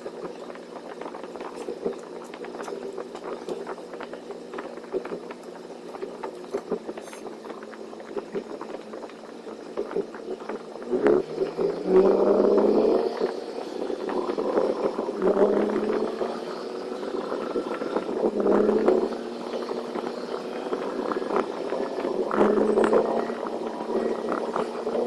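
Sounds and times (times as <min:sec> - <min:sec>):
small ticks and clicks: 0:00.0 - 0:25.0
truck engine droning: 0:00.0 - 0:25.0.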